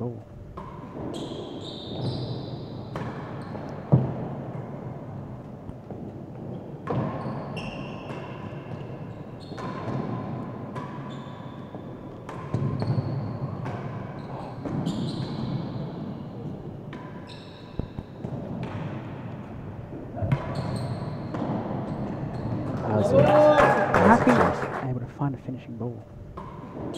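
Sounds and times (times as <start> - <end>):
ball hitting rackets and walls: 0.5 - 22.9, 26.3 - 26.9.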